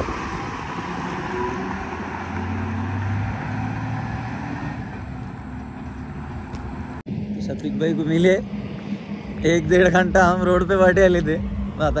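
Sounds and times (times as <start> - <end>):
truck diesel engine pulling away: 0.0 - 11.8.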